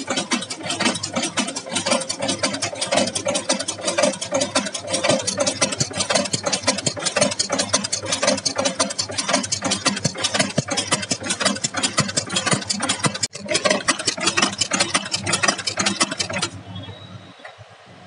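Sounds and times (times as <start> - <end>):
chain machine clattering: 0.0 - 16.6
steady machine hum: 0.0 - 18.0.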